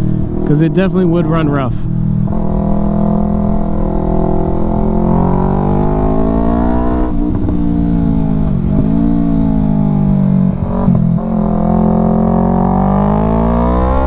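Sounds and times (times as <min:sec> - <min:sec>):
motorcycle engine under throttle: 0:00.0 - 0:14.0.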